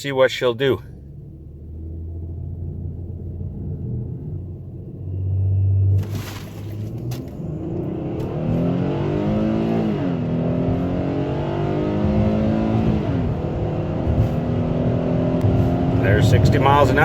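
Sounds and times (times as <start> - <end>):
road and tyre noise: 0.0 - 17.0
car engine accelerating: 0.3 - 17.0.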